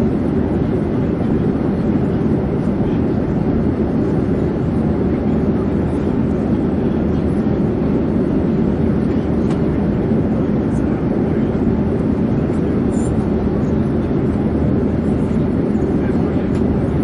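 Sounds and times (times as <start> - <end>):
airplane drone in flight: 0.0 - 17.0.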